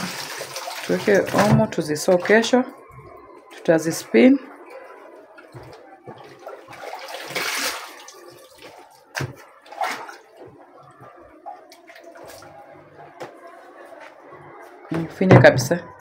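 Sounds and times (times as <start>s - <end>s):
water sloshing in washing machine: 0.0s - 13.2s.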